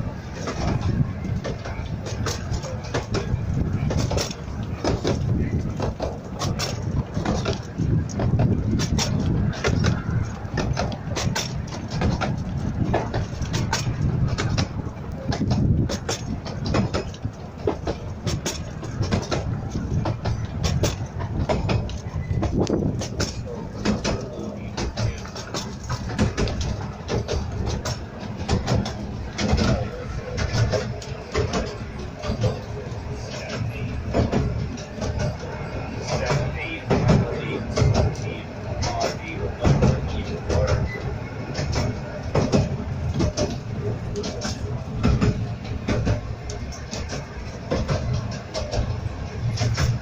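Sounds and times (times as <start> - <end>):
carriage low rumble: 0.0 - 50.0
miniature train rattling on track: 0.0 - 50.0
wheels clicking over rails: 0.0 - 50.0.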